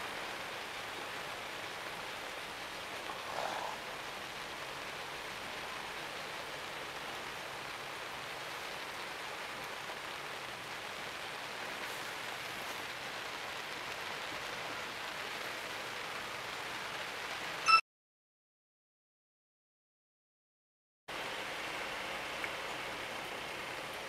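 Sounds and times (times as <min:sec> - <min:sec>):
steady rain falling: 0:00.0 - 0:17.7, 0:21.1 - 0:24.0.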